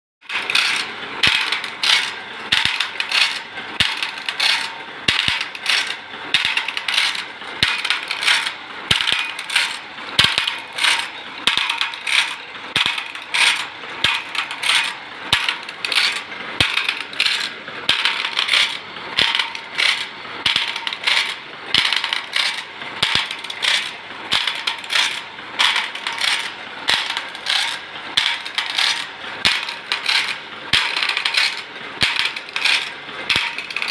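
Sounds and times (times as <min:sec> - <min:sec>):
grinding wheel on saw teeth: 0:00.2 - 0:33.9
mechanical clicking: 0:00.2 - 0:33.9.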